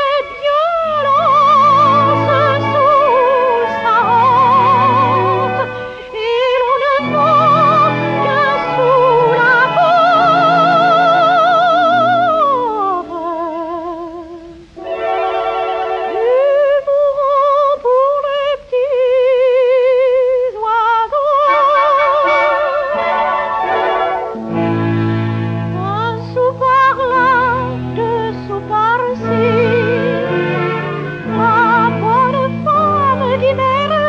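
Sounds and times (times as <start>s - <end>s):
high wordless vibrato melody: 0.0s - 13.5s, 14.8s - 17.3s, 21.4s - 34.0s.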